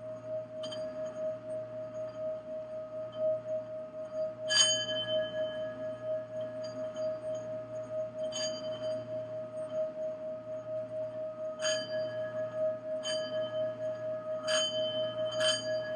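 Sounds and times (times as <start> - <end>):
singing bowl ringing: 0.0 - 15.9.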